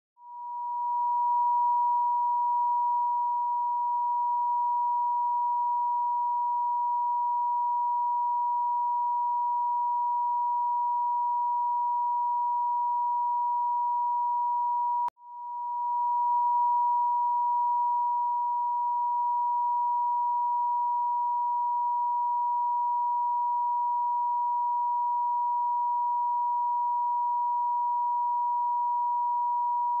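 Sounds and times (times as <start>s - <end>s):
pure sine tone: 0.2s - 30.0s.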